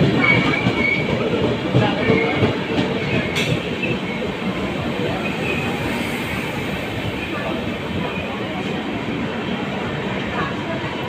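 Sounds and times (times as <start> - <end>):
train wheels rumbling and rattling: 0.0 - 11.0.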